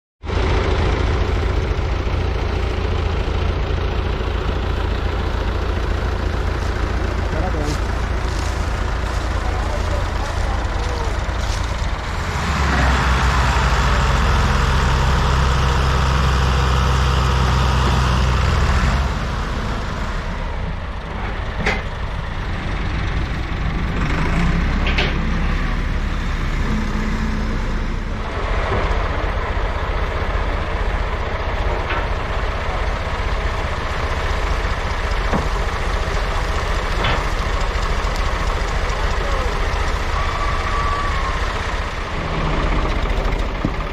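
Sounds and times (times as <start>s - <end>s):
tractor engine running: 0.2s - 43.9s.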